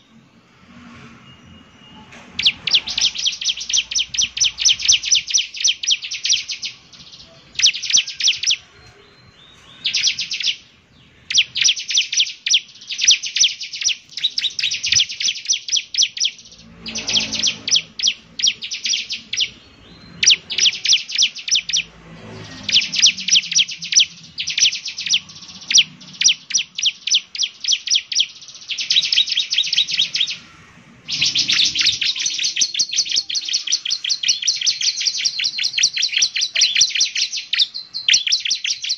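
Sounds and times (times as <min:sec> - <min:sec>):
bird singing sharp high chirps: 0:00.0 - 0:38.9.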